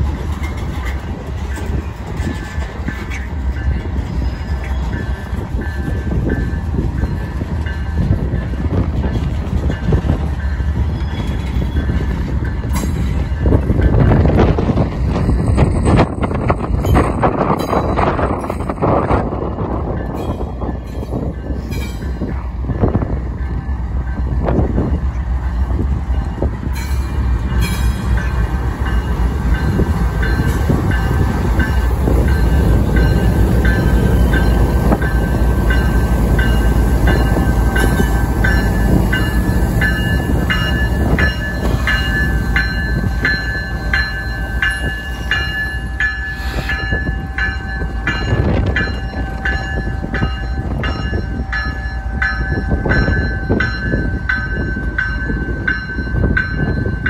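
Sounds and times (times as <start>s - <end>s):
diesel locomotives rumbling past: 0.0s - 57.0s
locomotive bell ringing: 0.0s - 57.0s.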